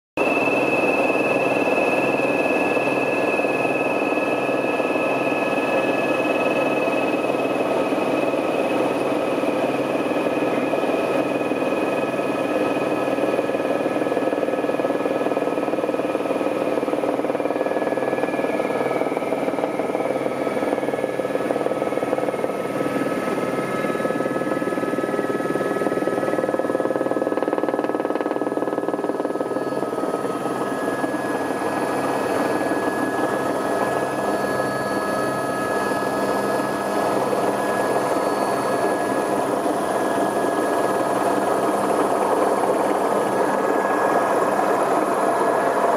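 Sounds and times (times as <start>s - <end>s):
helicopter engine and rotor: 0.2s - 45.9s.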